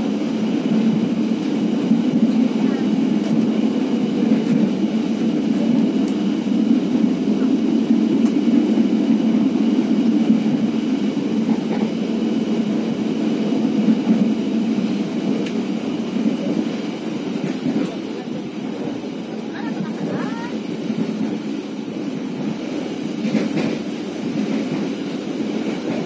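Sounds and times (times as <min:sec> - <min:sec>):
train carriage rumble: 0:00.0 - 0:26.0.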